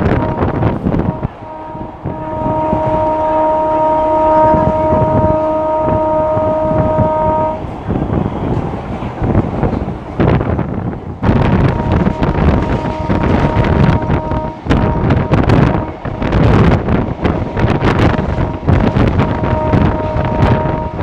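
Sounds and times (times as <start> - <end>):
train horn blast: 0.0 - 7.8, 11.2 - 21.0
train running noise and wind: 0.0 - 21.0.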